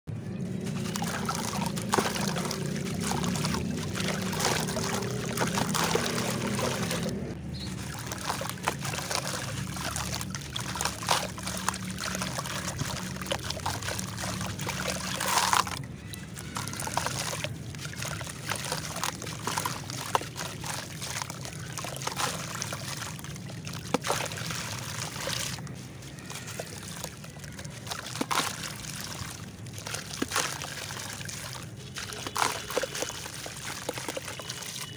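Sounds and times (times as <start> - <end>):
wet clay crunching and sloshing: 0.1 - 34.9
grit trickling into water: 0.2 - 34.9.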